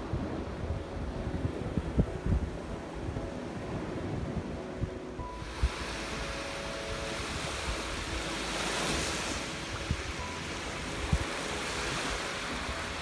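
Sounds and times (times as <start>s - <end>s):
small waves on sandy shore: 0.0s - 13.0s.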